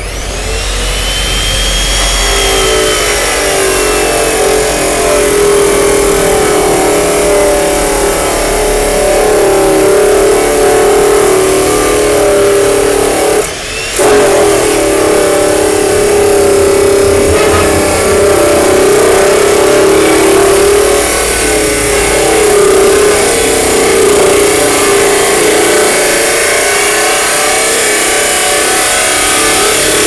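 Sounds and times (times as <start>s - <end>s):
chop saw grinding steel: 0.0s - 30.0s.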